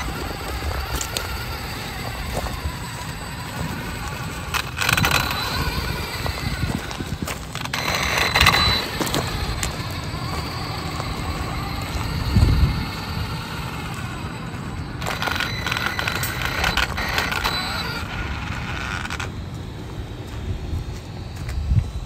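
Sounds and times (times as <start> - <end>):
high electric motor whine: 0.0 - 22.0
tyres rumbling over gravel: 0.0 - 22.0.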